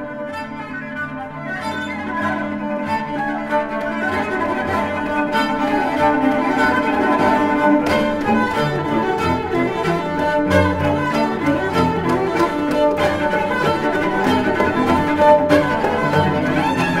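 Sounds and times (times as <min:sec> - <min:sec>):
string music with sustained notes: 0:00.0 - 0:17.0.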